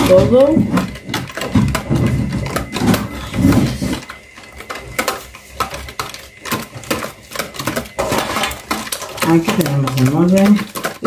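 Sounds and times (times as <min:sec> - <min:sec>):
utensil clinking against bowl: 0:00.0 - 0:11.0.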